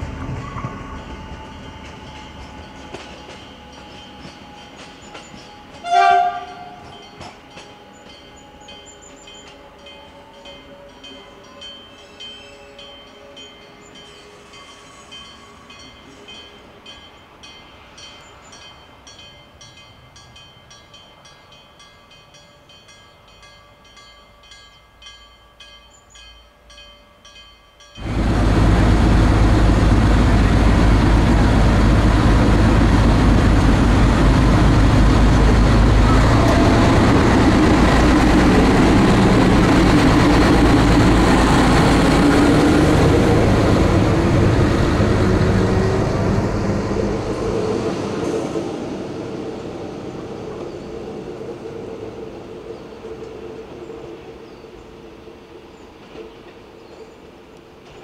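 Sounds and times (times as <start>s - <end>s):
diesel railcar engine rumbling: 0.0s - 58.0s.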